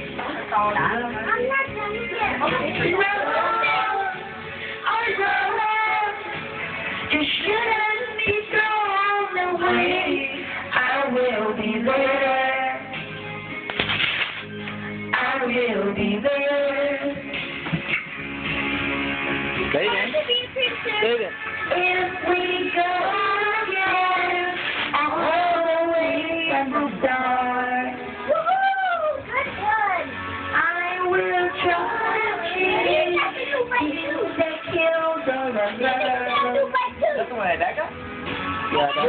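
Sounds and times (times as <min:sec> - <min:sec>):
music with high-pitched singing: 0:00.0 - 0:39.0.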